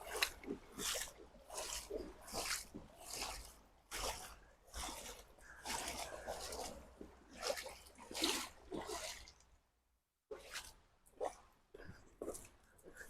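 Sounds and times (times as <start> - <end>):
footsteps wading through water: 0.0 - 9.7, 10.3 - 13.0.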